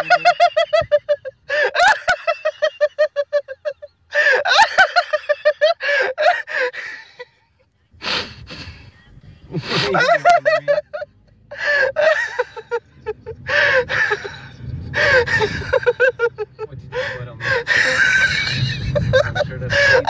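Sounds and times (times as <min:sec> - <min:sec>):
person laughing hard: 0:00.0 - 0:07.2, 0:09.6 - 0:20.0.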